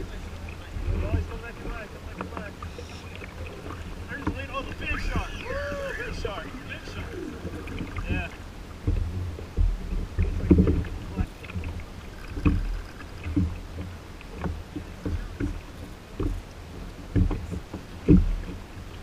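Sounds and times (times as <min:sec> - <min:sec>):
waves slapping kayak hull: 0:00.0 - 0:19.0.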